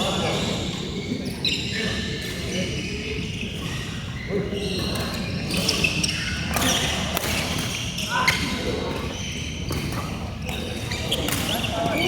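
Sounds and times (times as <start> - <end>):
shoe squeaks on court floor: 0.0 - 12.0
voices in a hall: 0.0 - 12.0.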